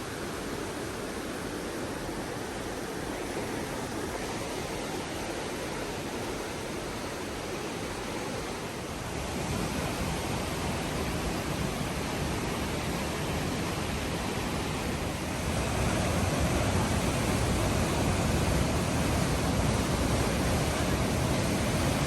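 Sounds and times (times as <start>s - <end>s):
rushing water and waterfalls: 0.0s - 22.0s.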